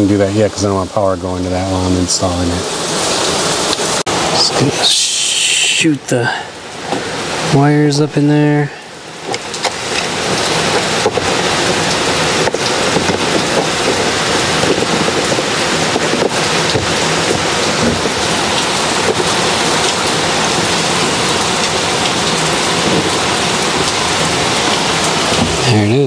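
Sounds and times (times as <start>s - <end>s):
loud steady rushing hiss: 0.0s - 26.0s.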